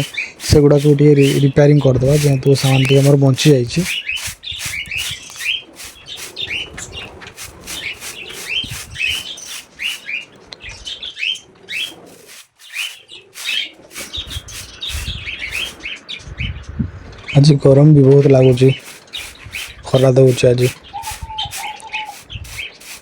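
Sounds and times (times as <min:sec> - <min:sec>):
sharp clicks and scratches: 0:00.0 - 0:10.4, 0:11.7 - 0:15.9, 0:18.3 - 0:23.0
budgerigars chirping: 0:00.0 - 0:16.6, 0:18.3 - 0:23.0.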